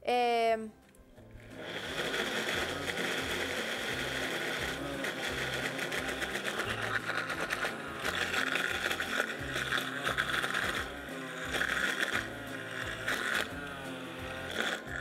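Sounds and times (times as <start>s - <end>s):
blender running: 1.4s - 15.0s.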